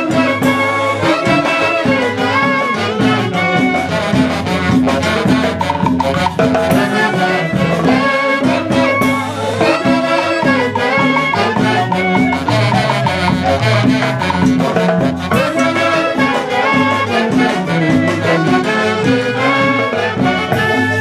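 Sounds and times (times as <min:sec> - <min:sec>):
latin dance band: 0:00.0 - 0:21.0
saxophone section melody: 0:00.0 - 0:21.0.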